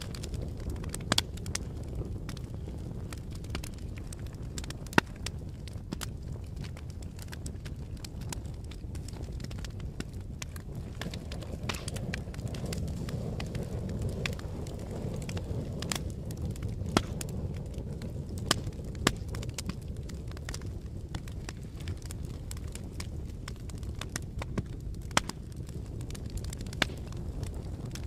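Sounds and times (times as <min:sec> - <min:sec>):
fire crackling: 0:00.0 - 0:28.0
low rumble of flames: 0:00.0 - 0:28.0.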